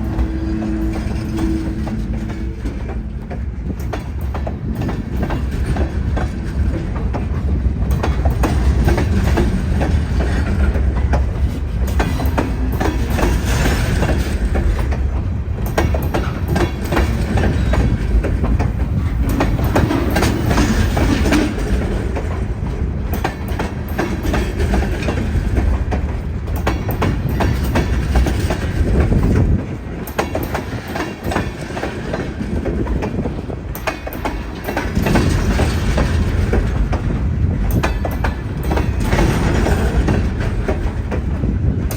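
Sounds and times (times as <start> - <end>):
train rumbling past: 0.0 - 41.9
wheels clicking over rail joints: 0.0 - 41.9.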